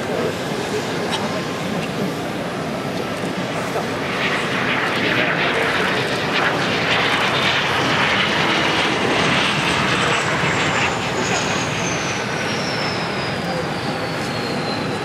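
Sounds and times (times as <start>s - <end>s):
jet engines landing: 0.0s - 15.0s.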